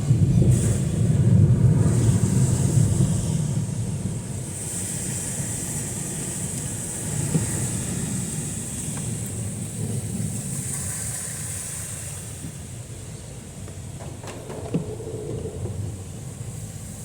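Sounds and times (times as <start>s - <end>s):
heavy rain hiss: 0.0s - 17.0s
vehicle rumble: 0.0s - 17.0s.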